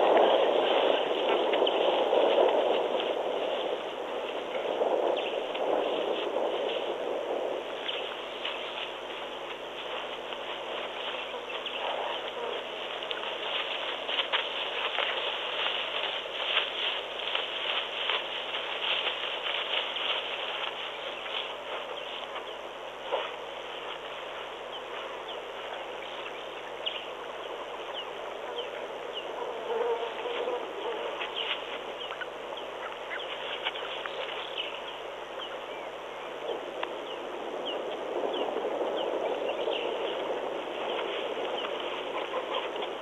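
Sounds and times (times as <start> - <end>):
insects buzzing: 0.0 - 43.0.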